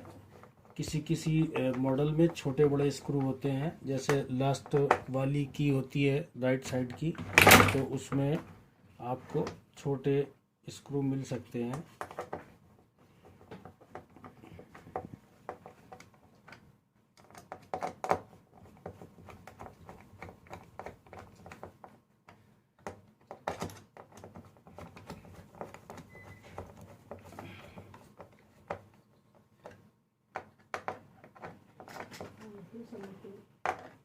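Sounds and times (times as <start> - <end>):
plastic parts clicking and knocking: 0.0 - 5.6, 6.6 - 8.5, 11.6 - 34.0.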